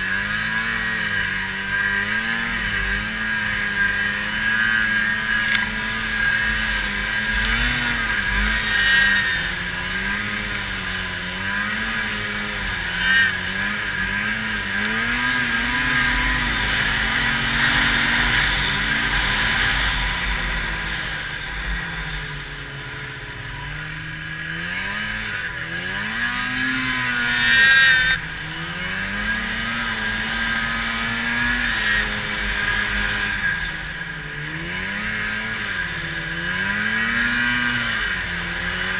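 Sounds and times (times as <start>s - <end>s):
rush of wind and snow: 0.0s - 38.9s
snowmobile engine revving: 0.0s - 38.9s.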